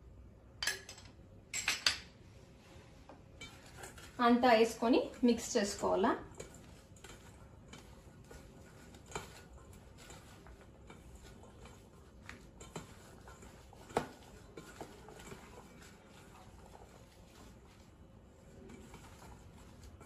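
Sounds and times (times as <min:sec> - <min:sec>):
hand squishing food mixture: 0:03.4 - 0:20.0.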